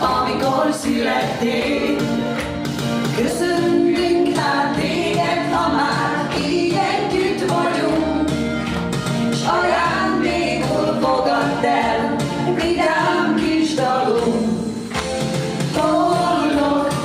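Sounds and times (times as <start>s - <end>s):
women singing into microphones: 0.0s - 2.3s, 3.1s - 8.6s, 9.3s - 14.8s, 15.7s - 17.0s
electronic keyboard backing: 0.0s - 17.0s.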